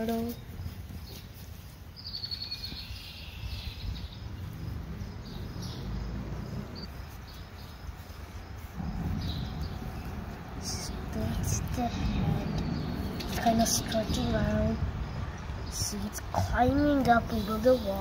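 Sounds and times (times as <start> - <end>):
low rumble on microphone: 2.7 - 18.0.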